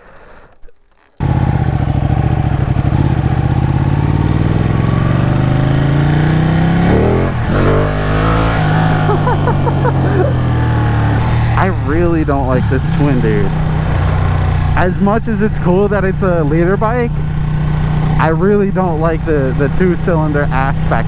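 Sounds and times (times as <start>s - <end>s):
motorcycle engine accelerating: 1.2s - 21.0s.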